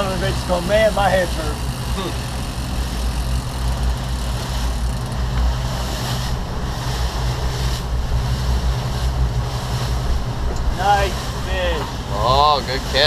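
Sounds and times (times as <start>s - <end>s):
outboard engine rumbling: 0.0s - 13.0s
sea water noise: 0.0s - 13.0s
wind buffeting microphone: 0.0s - 13.0s.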